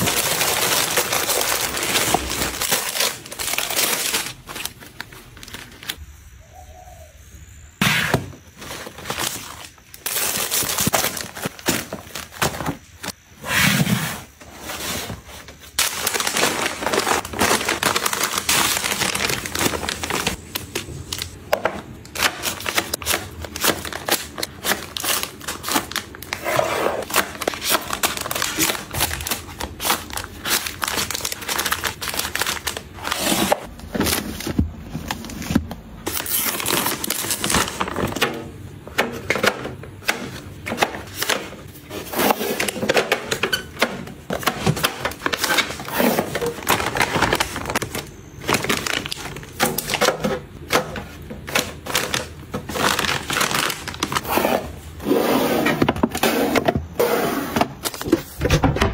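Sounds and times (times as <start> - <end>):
packaging tapping plastic bins: 0.0 - 6.0, 7.8 - 13.2, 13.8 - 54.9
plastic snack pouches rustling: 0.0 - 6.0, 8.6 - 13.2, 14.6 - 38.6, 39.3 - 55.0.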